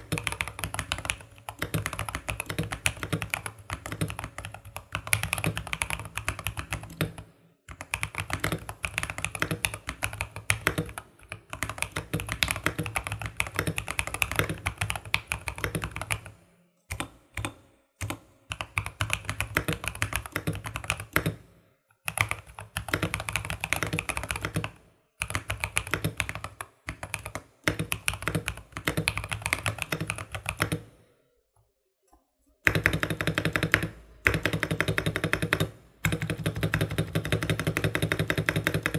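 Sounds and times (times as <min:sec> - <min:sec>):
mechanical keyboard typing: 0:00.0 - 0:21.4, 0:22.1 - 0:31.0, 0:32.6 - 0:38.9.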